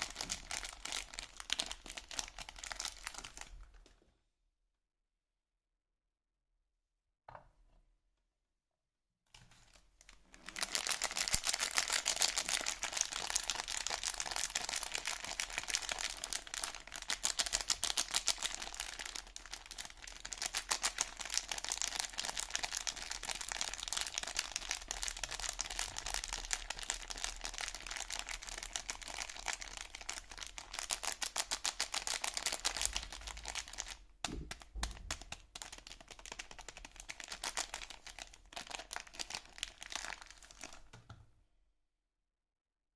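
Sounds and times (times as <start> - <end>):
packaging crinkling: 0.0 - 3.6, 9.4 - 41.1.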